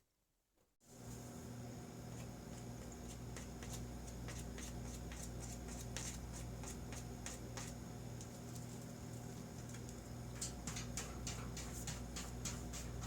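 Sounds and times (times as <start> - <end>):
steady low hum: 0.9 - 13.0.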